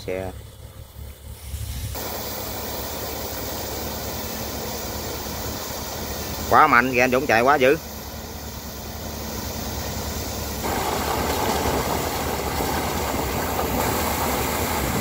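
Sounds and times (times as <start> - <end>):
engine running hard: 0.0 - 15.0.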